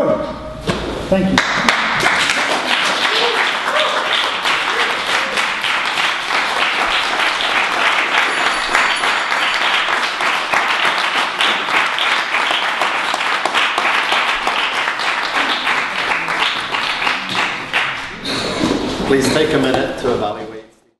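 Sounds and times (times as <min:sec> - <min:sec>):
audience applauding: 0:01.4 - 0:19.0.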